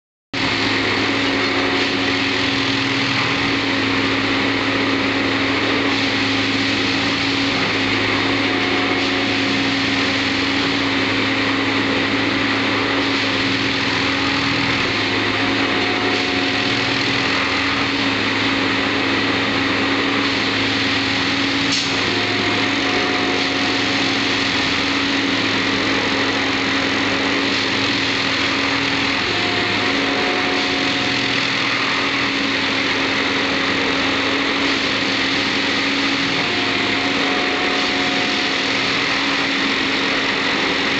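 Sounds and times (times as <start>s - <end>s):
track machine engine drone: 0.4s - 40.9s.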